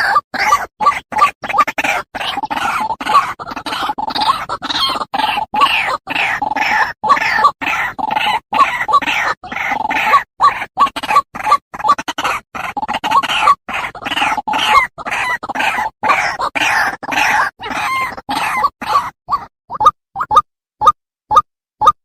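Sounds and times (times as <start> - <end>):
waterhen croaking calls: 0.0 - 22.0.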